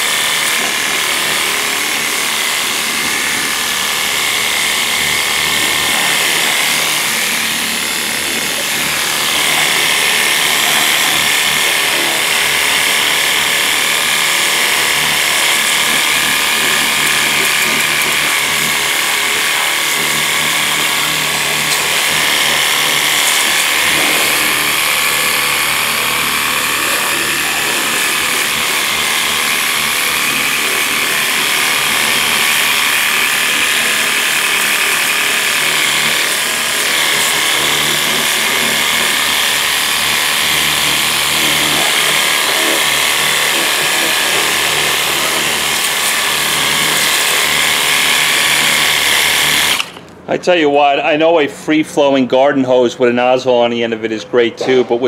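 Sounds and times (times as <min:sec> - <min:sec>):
pump motor buzzing: 0:00.0 - 0:50.2.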